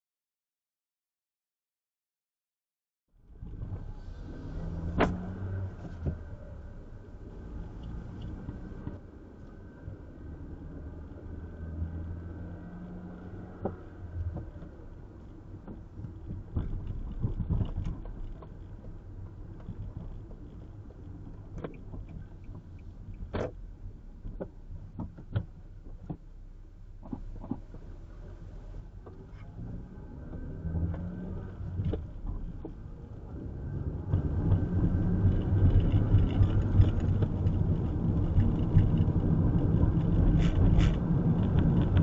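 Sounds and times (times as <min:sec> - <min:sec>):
road and engine rumble in car: 0:03.2 - 0:42.0.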